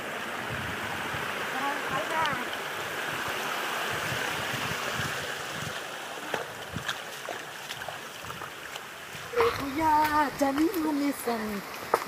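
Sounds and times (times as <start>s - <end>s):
stream water rushing over rocks: 0.0s - 12.0s.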